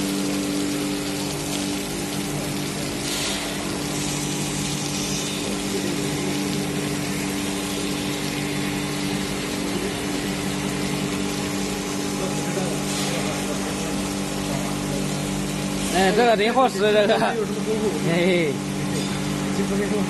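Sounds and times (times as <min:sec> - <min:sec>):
coolant hissing and splashing: 0:00.0 - 0:20.0
milling machine hum: 0:00.0 - 0:20.0.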